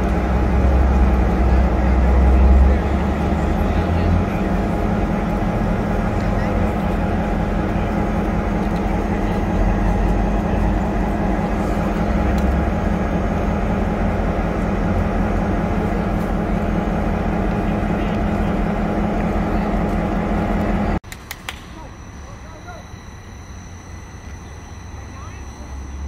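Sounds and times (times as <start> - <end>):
diesel locomotive idling: 0.0 - 26.0.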